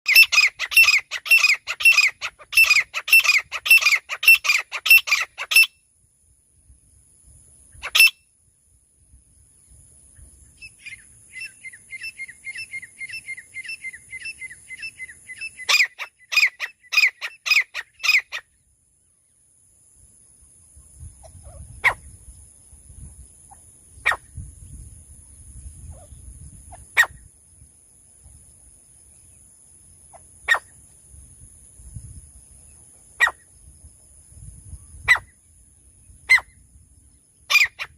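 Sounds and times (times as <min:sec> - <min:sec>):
francolin calling: 0:00.1 - 0:05.9, 0:07.6 - 0:08.4, 0:09.4 - 0:19.4, 0:20.4 - 0:27.7, 0:28.3 - 0:37.9.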